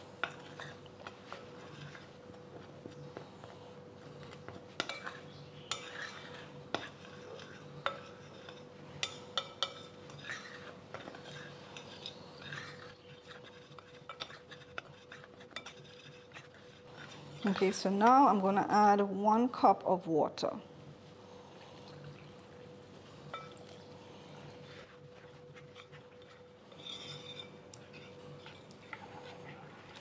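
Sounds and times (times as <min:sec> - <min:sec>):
spoon scraping dry flour: 0:00.0 - 0:18.4, 0:23.2 - 0:30.0.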